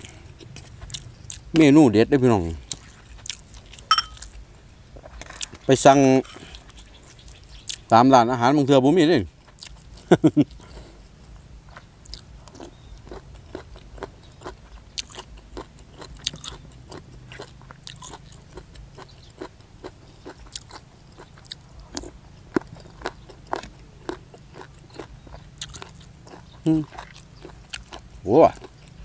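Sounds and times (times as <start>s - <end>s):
chewing crunchy mushrooms: 0.0s - 1.8s, 2.4s - 4.4s, 5.0s - 7.9s, 9.3s - 11.0s, 11.6s - 29.0s.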